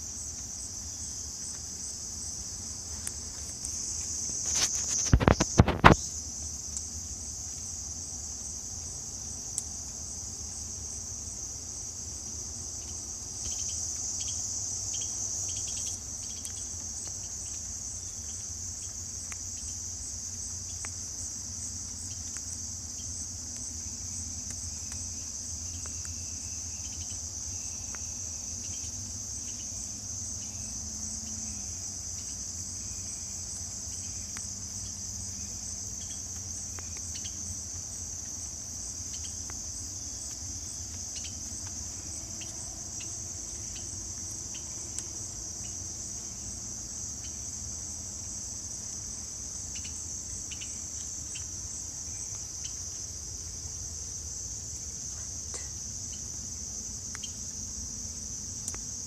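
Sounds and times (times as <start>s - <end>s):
insects singing: 0.0s - 59.0s.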